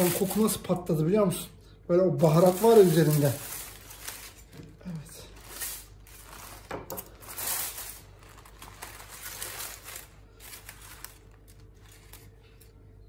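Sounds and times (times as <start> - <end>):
paper and foil crinkling: 0.0 - 1.0, 2.2 - 12.9.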